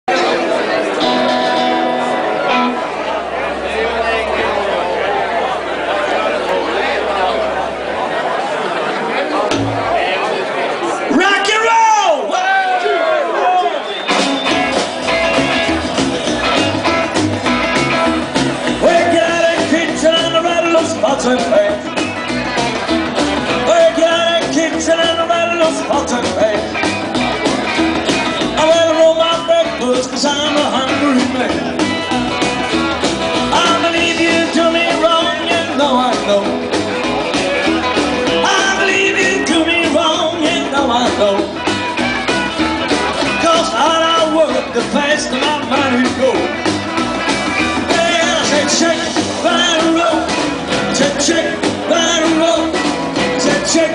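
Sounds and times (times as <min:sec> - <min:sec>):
rockabilly band playing live: 0:00.1 - 0:12.4, 0:13.8 - 0:53.9.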